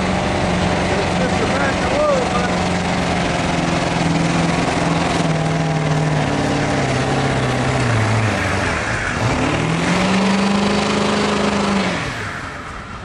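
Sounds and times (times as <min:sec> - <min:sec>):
truck engine running hard: 0:00.0 - 0:13.0.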